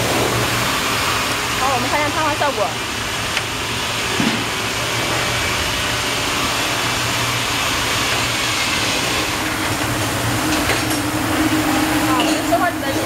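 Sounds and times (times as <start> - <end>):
whirring machine: 0.0 - 13.0.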